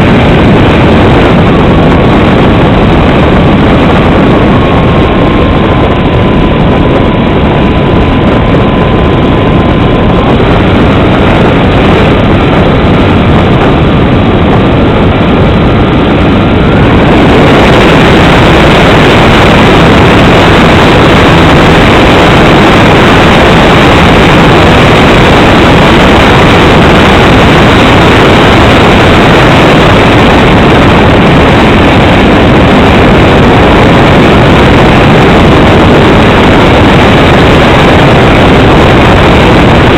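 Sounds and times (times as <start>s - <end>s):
airplane engine roar: 0.0s - 39.9s.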